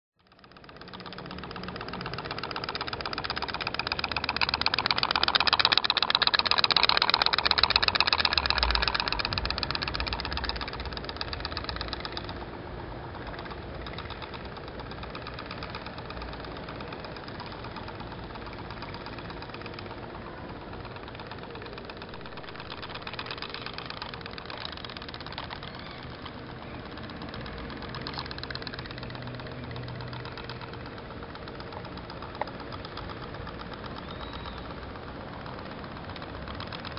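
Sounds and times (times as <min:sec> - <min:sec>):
steam boat engine putt-putting: 0:00.2 - 0:36.9.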